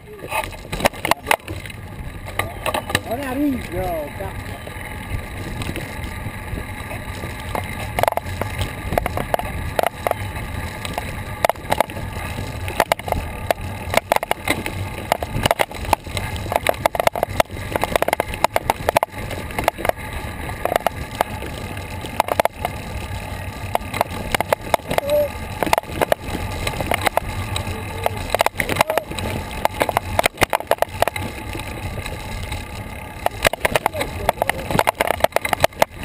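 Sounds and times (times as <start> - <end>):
bicycle tyres rolling: 0.0 - 36.0
small rattles and knocks: 0.2 - 36.0.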